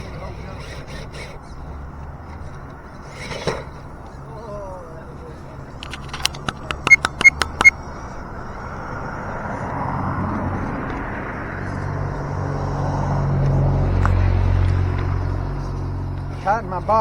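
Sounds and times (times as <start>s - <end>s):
steady vehicle noise: 0.0s - 17.0s.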